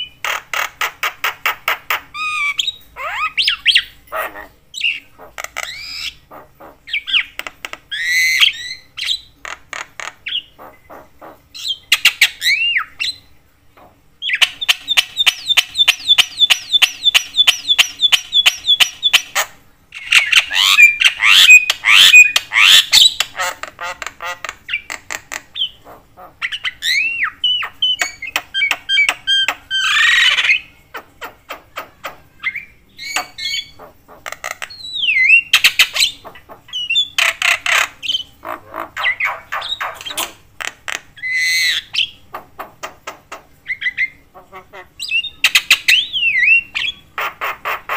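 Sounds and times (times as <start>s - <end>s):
myna bird song: 0.0s - 47.9s.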